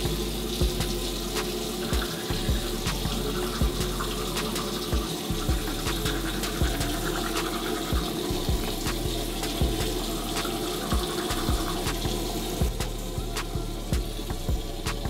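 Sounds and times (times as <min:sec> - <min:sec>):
music with steady beat: 0:00.0 - 0:15.0
tap water running into sink: 0:00.0 - 0:15.0.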